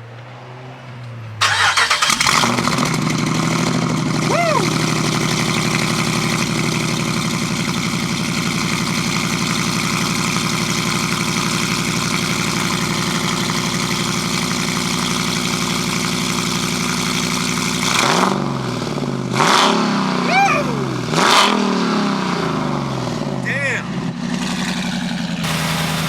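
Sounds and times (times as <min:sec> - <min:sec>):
car engine revving: 0:01.4 - 0:26.0
car engine idling with deep note: 0:02.1 - 0:26.0.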